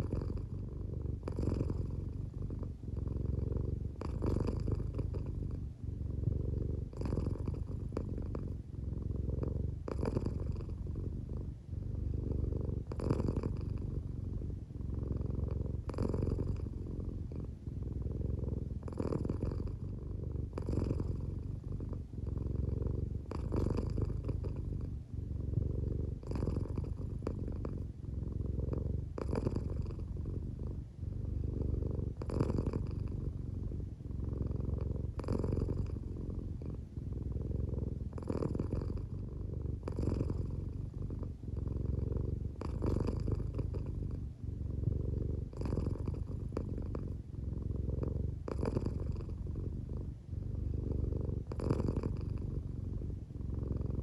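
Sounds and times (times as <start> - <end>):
cat purring: 0.0 - 54.0.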